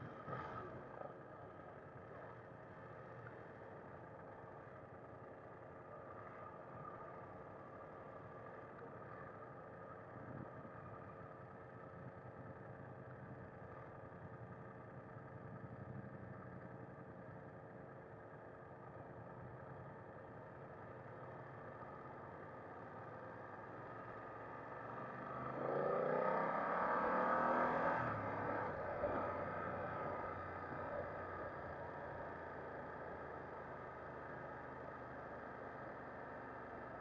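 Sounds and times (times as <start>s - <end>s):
motorcycle engine at low revs: 0.0s - 37.0s.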